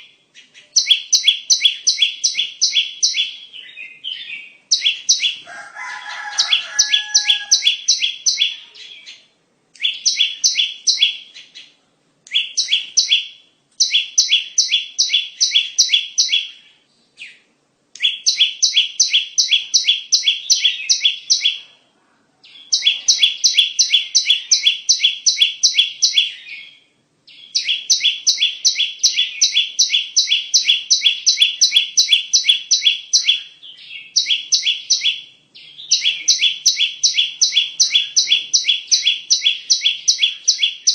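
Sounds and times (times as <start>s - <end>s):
bird rapid repeated chirps: 0.0s - 5.5s, 6.2s - 11.7s, 12.3s - 21.7s, 22.5s - 40.9s.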